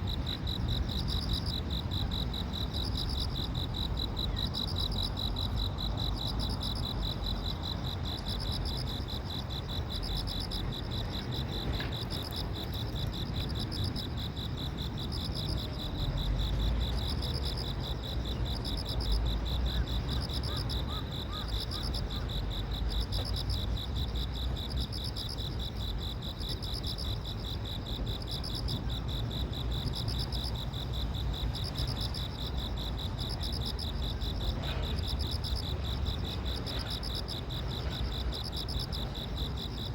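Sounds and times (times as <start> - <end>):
constant low rumble: 0.0 - 39.9
insects trilling: 0.0 - 39.9.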